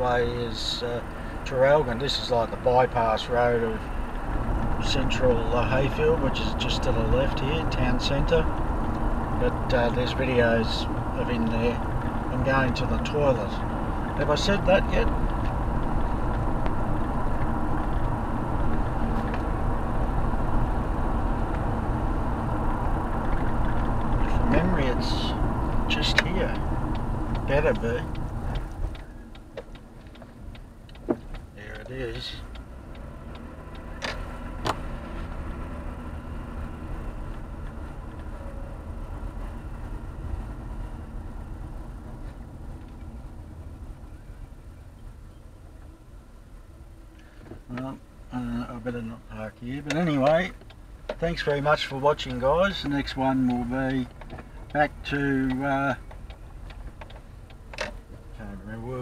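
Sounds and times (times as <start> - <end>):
car engine cruising: 0.0 - 59.0
tyres rumbling on road: 0.0 - 59.0.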